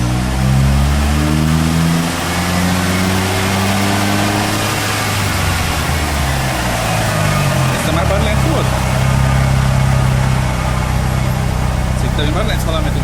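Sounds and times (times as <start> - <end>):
car engine pulling: 0.0 - 13.0.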